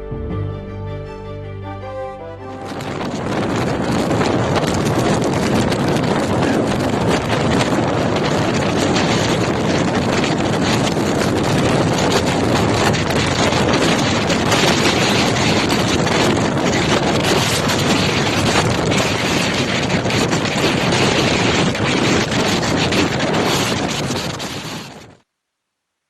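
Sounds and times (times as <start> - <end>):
wind blowing against microphone: 2.4 - 25.2.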